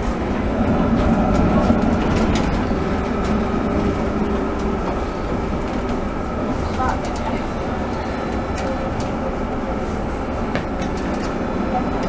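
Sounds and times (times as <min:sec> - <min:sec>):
low hum: 0:00.0 - 0:12.0
tram wheels rumbling on rail: 0:00.0 - 0:12.0.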